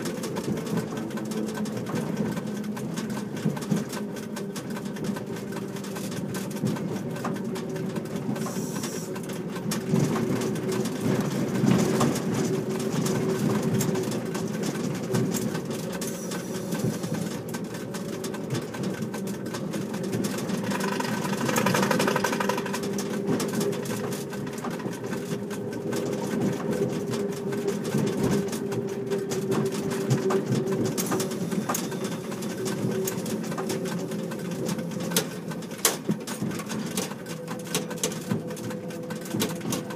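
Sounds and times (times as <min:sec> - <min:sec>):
train wheels rattling on rails: 0:00.0 - 0:39.9
electric train motor hum: 0:07.3 - 0:39.9.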